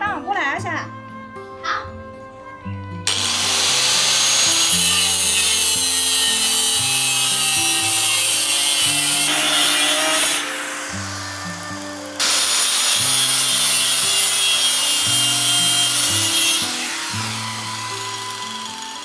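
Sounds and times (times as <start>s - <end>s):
angle grinder cutting steel rod: 3.1s - 19.0s.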